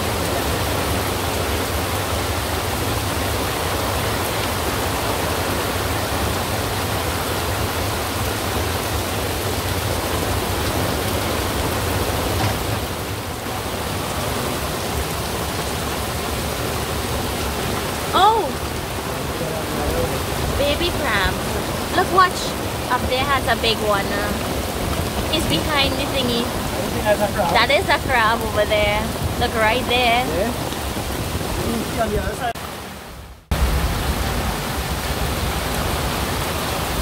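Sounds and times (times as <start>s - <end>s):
heavy rain on water: 0.0s - 37.0s.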